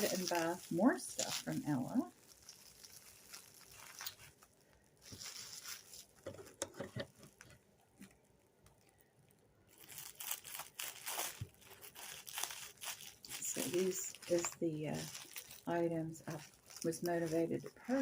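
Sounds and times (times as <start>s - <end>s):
soft rustling: 0.0s - 18.0s.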